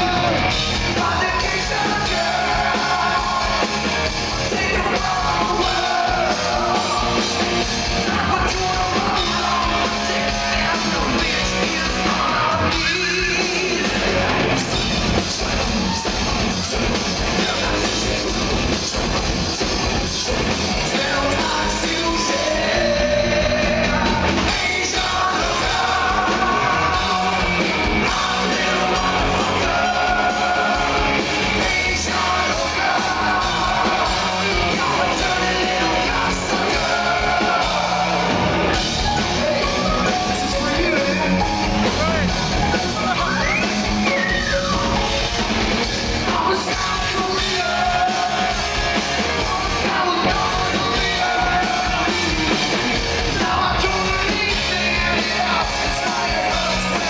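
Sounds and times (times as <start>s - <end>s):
metal band playing live: 0.0s - 57.0s
singer singing and yelling: 0.0s - 57.0s.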